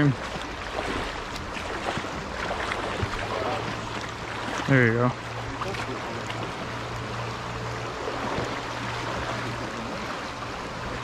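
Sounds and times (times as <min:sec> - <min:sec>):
river water rushing over riffles: 0:00.0 - 0:11.0.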